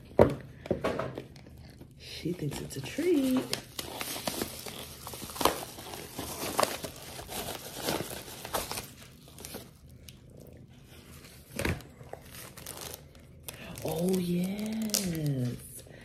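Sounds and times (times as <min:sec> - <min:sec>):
paper envelope crinkling and tearing: 0:01.8 - 0:10.2, 0:10.9 - 0:15.8.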